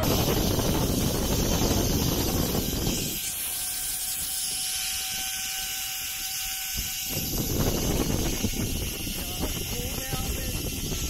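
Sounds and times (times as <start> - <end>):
wind rumble on microphone: 0.0 - 11.0
zipline trolley hiss and whine: 0.0 - 11.0.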